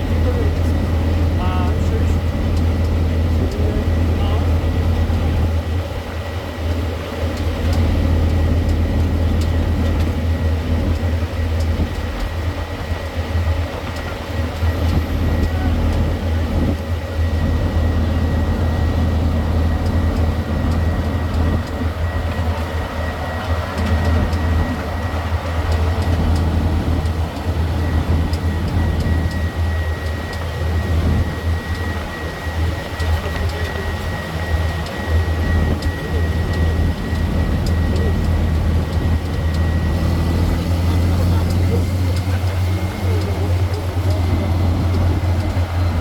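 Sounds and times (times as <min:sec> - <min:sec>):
train engine and wheels droning: 0:00.0 - 0:46.0.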